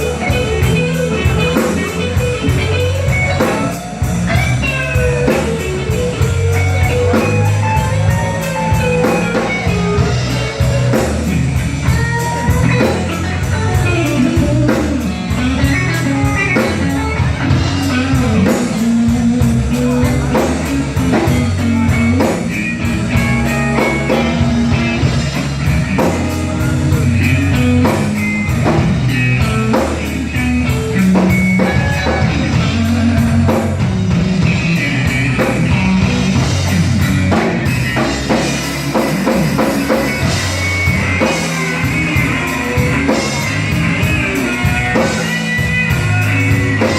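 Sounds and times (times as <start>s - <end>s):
bass guitar: 0.0s - 46.9s
drum kit: 0.0s - 46.9s
electric guitar lead lines: 0.0s - 46.9s.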